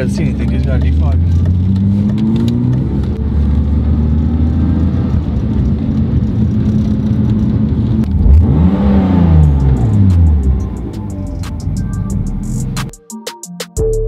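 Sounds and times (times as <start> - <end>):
car engine from inside cabin: 0.0 - 12.8.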